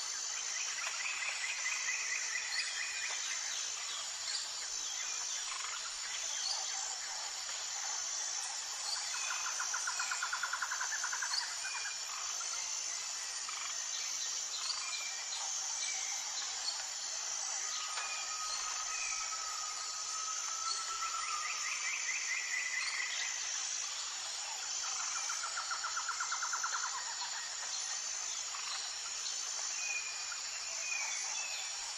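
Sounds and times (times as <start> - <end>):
bird calls and trills: 0.0 - 31.9
insect chorus: 0.0 - 31.9.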